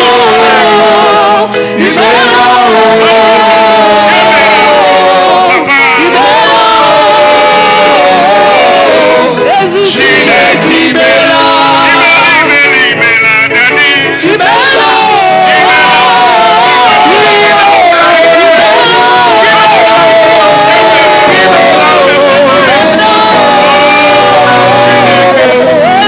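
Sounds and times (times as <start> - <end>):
voices singing slow melody: 0.0 - 26.0.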